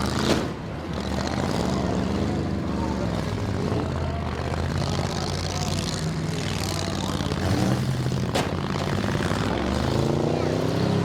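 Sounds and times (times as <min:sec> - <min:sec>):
loud car engines running: 0:00.0 - 0:11.0.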